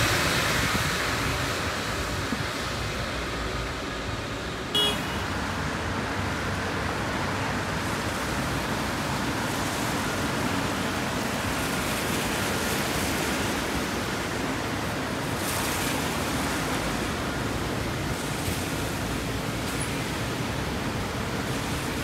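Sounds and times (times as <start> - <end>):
rain on wet street: 0.0 - 22.0
traffic on wet street: 0.0 - 22.0.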